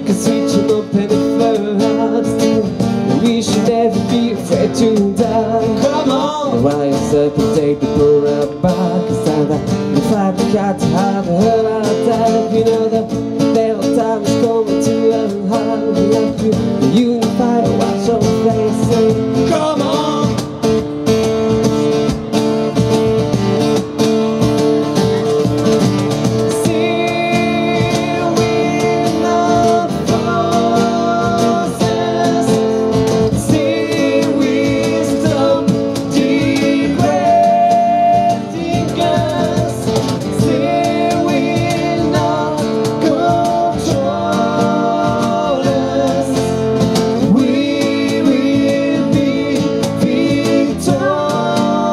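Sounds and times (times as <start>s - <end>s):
man singing: 0.0s - 20.8s, 26.4s - 51.9s
acoustic guitars strummed: 0.0s - 51.9s
cajon beat: 0.0s - 51.9s.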